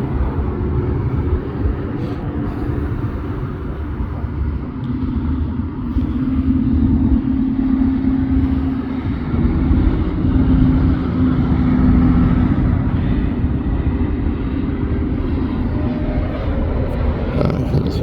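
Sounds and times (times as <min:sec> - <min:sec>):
motor vehicle running: 0:00.0 - 0:18.0.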